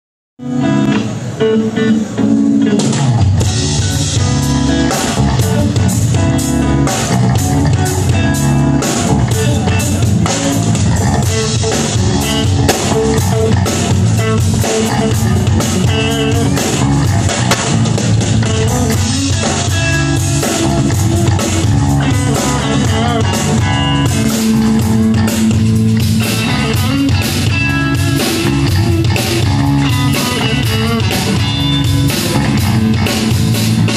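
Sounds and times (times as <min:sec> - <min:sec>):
bass guitar: 0:00.4 - 0:33.9
guitar: 0:00.4 - 0:33.9
drum kit beat: 0:02.0 - 0:33.9.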